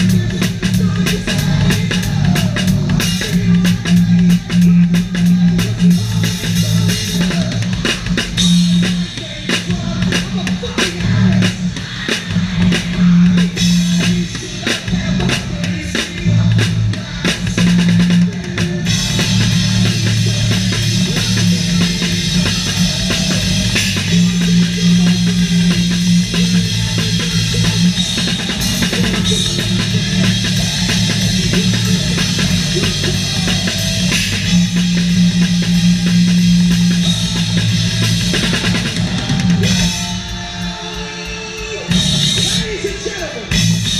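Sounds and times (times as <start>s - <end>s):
low bass line: 0.0s - 9.1s, 9.8s - 11.7s, 12.3s - 14.3s, 14.9s - 42.7s
live rock band playing: 0.0s - 43.9s.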